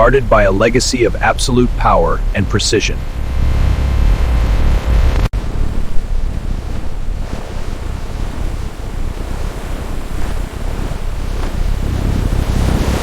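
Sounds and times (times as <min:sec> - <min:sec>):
heavy low rumble: 0:00.0 - 0:13.0
ocean waves rushing: 0:00.0 - 0:13.0
wind: 0:00.0 - 0:13.0.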